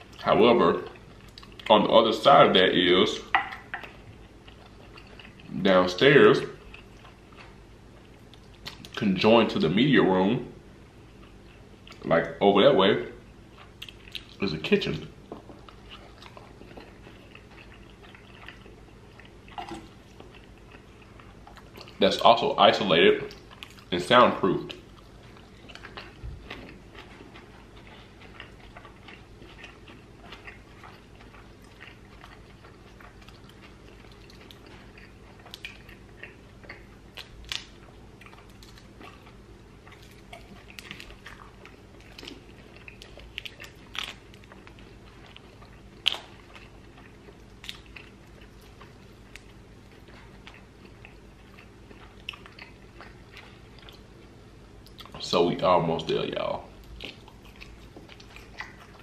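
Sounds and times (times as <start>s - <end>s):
person chewing food: 0.0s - 1.9s, 2.7s - 9.0s, 11.0s - 12.4s, 13.2s - 22.2s, 23.2s - 55.2s, 56.1s - 59.0s
faint steady hum: 0.0s - 59.0s.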